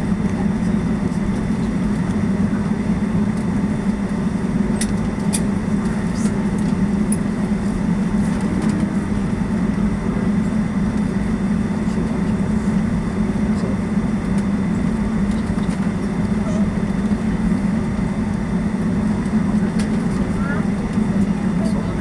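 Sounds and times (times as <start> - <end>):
airplane cabin engine drone: 0.0 - 22.0.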